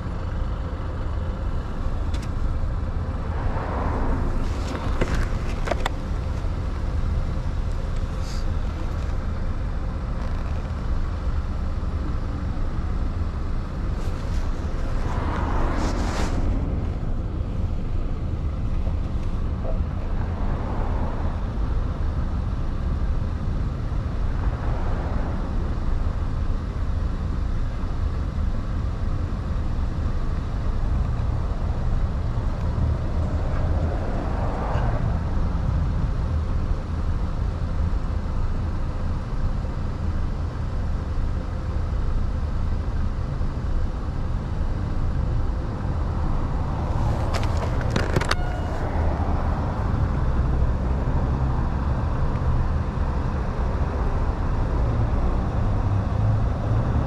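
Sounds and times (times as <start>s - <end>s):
low rumble of wind and road noise: 0.0s - 57.0s.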